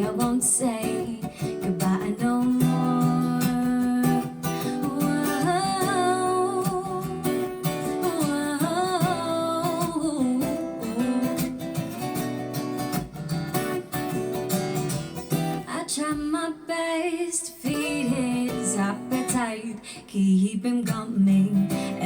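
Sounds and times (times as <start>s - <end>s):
woman singing wordless melody: 0.0s - 12.1s, 15.5s - 22.0s
acoustic guitar playing: 0.0s - 16.4s, 17.6s - 22.0s.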